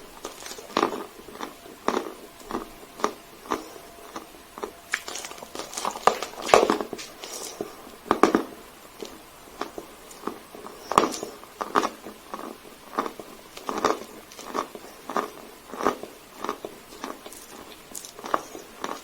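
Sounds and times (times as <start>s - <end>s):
chalk being chewed: 0.2s - 7.8s, 9.0s - 19.0s.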